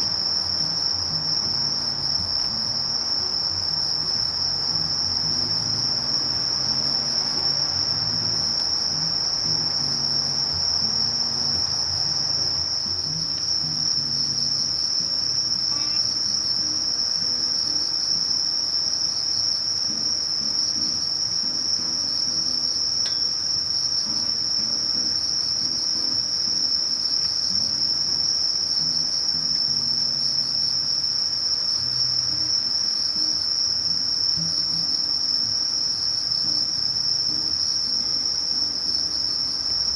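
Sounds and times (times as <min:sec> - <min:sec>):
katydid high steady trill: 0:02.5 - 0:39.9.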